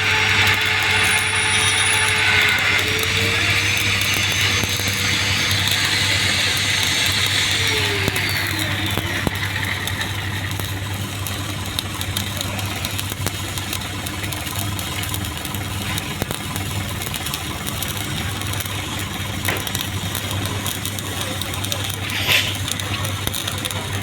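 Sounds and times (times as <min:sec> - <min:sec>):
welding arc crackling: 0:00.0 - 0:24.0.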